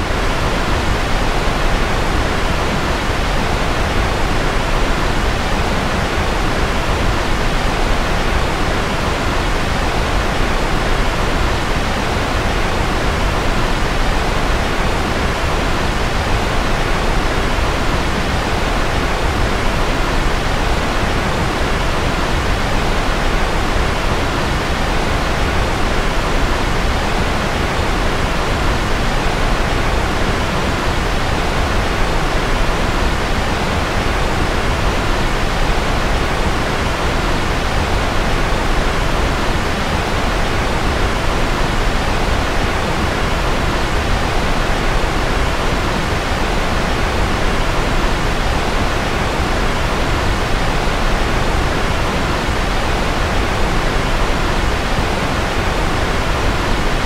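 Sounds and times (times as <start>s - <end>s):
steady white noise hiss: 0.0s - 57.0s.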